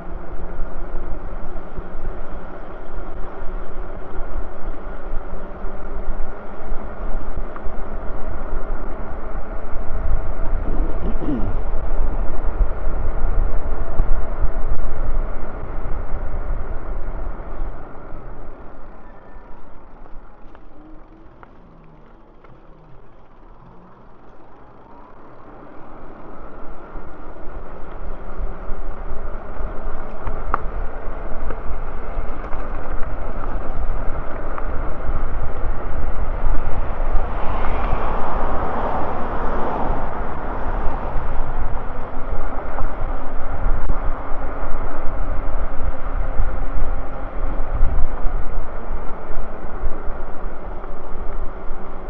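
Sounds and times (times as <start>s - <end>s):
wind rushing over microphone: 0.0s - 18.5s, 26.4s - 52.0s
road rumble: 0.0s - 52.0s.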